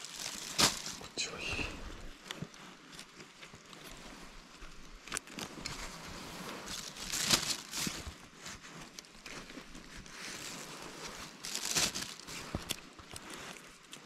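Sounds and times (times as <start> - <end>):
plastic bag rustling: 0.0 - 14.0
rustling and crinkling handling: 0.0 - 14.0.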